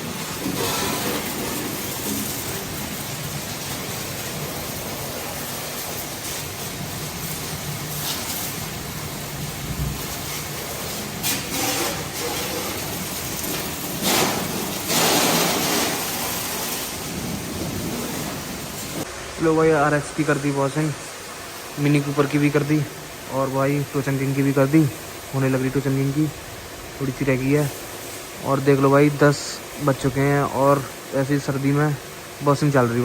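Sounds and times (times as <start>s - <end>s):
water spraying onto vehicle: 0.0s - 33.0s.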